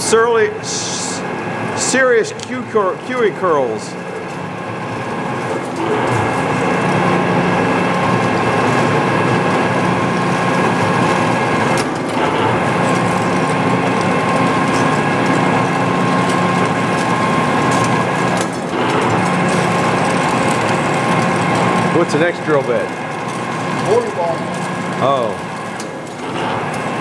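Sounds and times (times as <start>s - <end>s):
metal lathe drilling: 0.0s - 27.0s.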